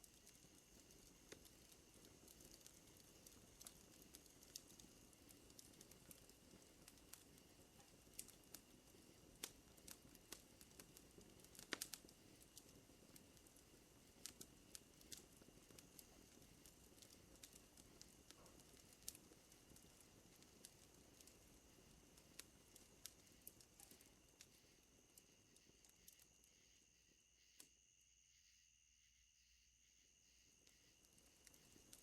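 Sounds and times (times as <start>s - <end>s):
wood fire crackling and popping: 0.0s - 26.6s, 30.6s - 32.0s
night insects droning: 0.0s - 32.0s.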